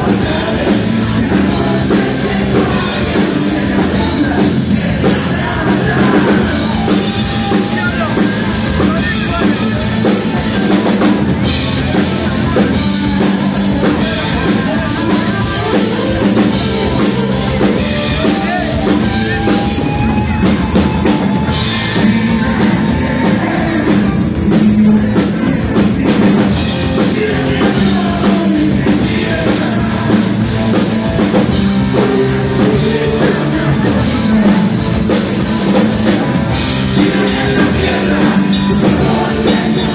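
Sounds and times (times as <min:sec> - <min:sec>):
drum kit: 0:00.0 - 0:39.9
electric guitar: 0:00.0 - 0:39.9
man singing: 0:00.0 - 0:39.9.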